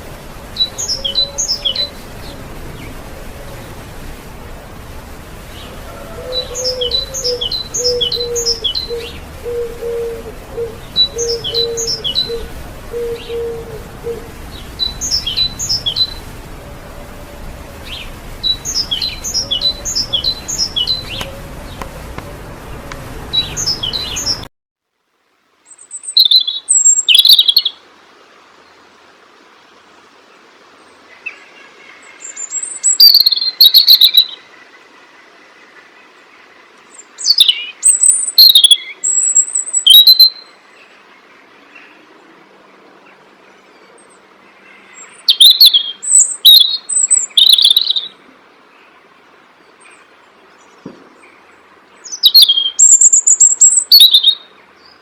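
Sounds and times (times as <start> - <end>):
songbird singing: 0.0 - 24.5, 25.6 - 27.8, 29.6 - 55.0
faint hiss: 0.0 - 55.0.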